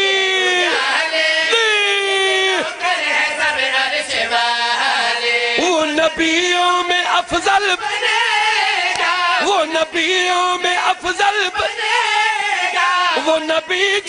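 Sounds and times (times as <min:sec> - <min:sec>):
men chanting over loudspeaker: 0:00.0 - 0:14.0.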